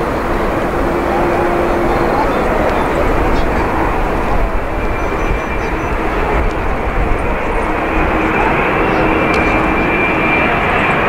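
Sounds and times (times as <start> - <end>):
jet engine rumble with high whine: 0.0 - 11.0.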